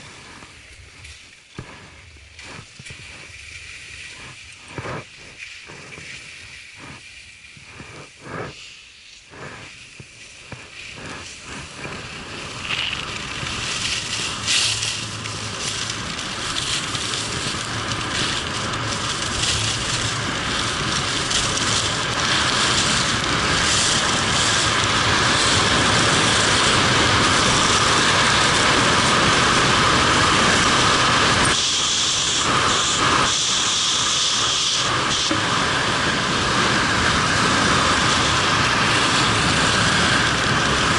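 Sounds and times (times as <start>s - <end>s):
skis scraping over hard snow: 0.0s - 40.9s
wind rushing over microphone: 0.0s - 40.9s.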